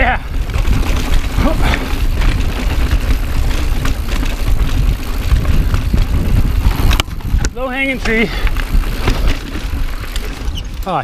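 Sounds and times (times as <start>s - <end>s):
bike rattling over rock: 0.0s - 11.0s
wind buffeting microphone: 0.0s - 11.0s.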